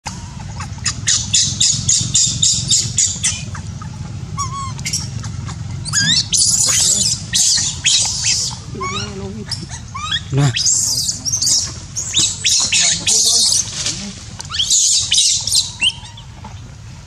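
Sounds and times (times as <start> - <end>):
baby monkey screaming: 0.1 - 13.8, 14.5 - 16.3.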